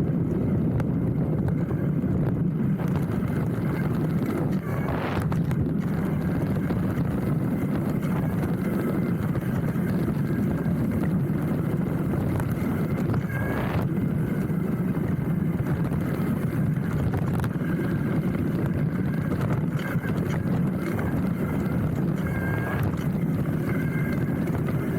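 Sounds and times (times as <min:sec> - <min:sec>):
bike tyres rumbling over dirt: 0:00.0 - 0:24.9.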